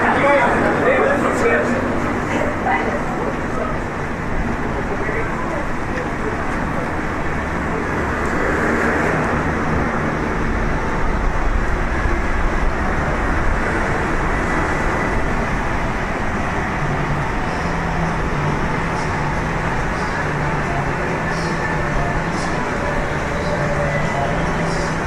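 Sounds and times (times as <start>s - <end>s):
city street traffic hum: 0.0s - 25.0s
low engine note: 0.0s - 25.0s.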